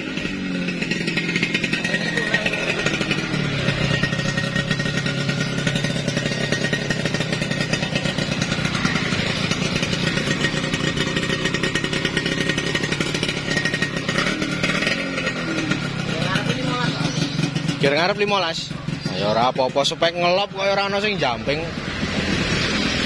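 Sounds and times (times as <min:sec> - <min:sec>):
two-stroke engine running: 0:00.0 - 0:23.0.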